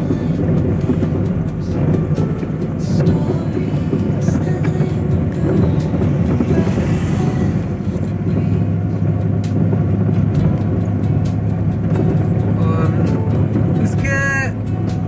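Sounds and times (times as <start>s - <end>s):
car rattling: 0.0s - 15.0s
small car engine running: 0.0s - 15.0s.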